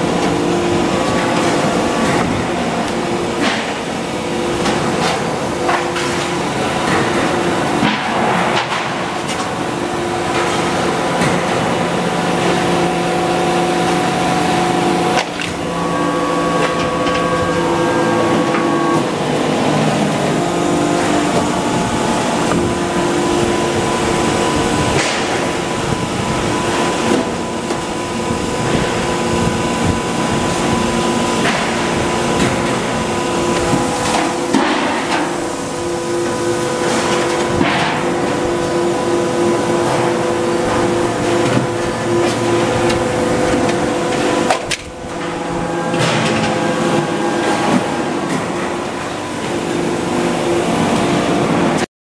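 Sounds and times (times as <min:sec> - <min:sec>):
hydraulic press humming: 0:00.0 - 0:51.9.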